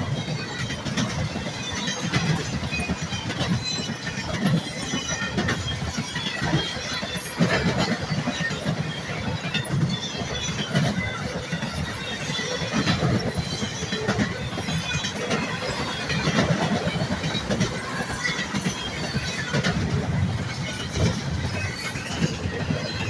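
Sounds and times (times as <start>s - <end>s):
train wheels clattering and squealing: 0.0s - 23.0s.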